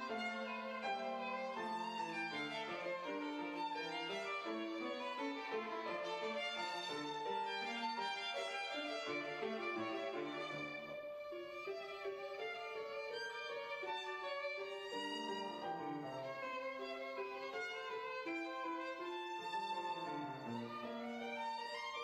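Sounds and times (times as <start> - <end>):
grand piano: 0.0 - 22.0
violin playing: 0.0 - 22.0.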